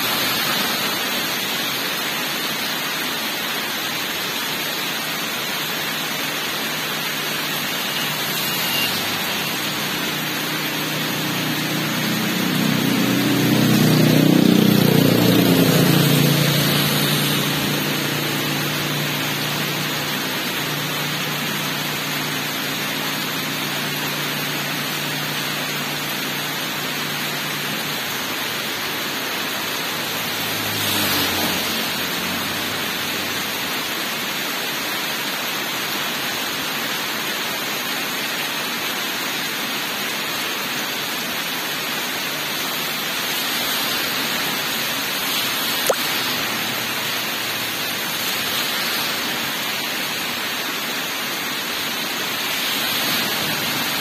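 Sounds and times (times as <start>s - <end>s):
vehicle engine hum: 0.0s - 34.3s, 42.0s - 54.0s
heavy rain on pavement: 0.0s - 54.0s
vehicle swishing past on wet road: 0.0s - 54.0s.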